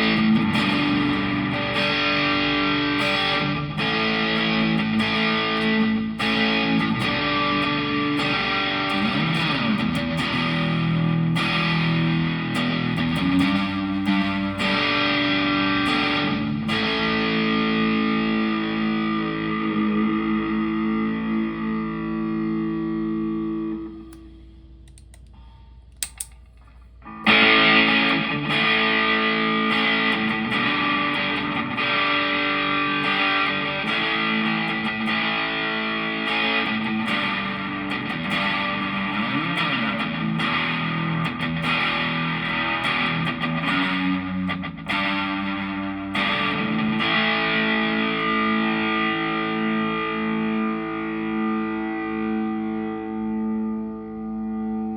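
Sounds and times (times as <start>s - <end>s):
distorted electric guitar chords: 0.0s - 26.4s, 27.0s - 54.9s.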